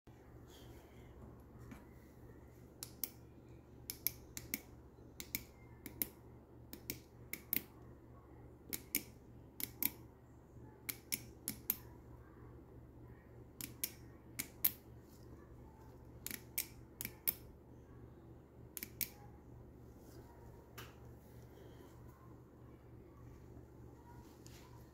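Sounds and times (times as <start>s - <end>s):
faint low hum: 0.1s - 24.9s.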